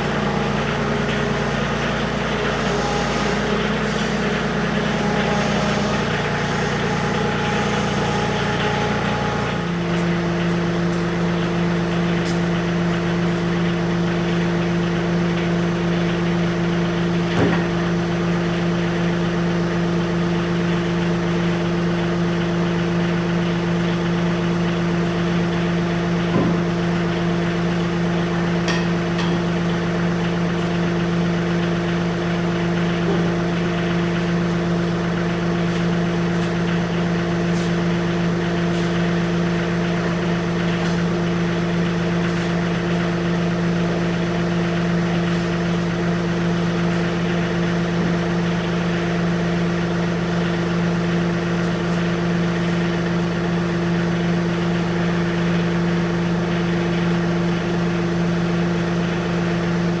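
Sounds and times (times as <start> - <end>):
tractor engine running: 0.0 - 17.3, 22.4 - 58.1.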